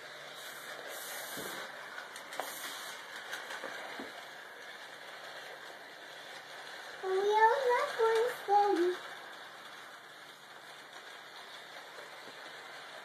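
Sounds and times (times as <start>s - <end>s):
model train whirring: 0.0s - 13.0s.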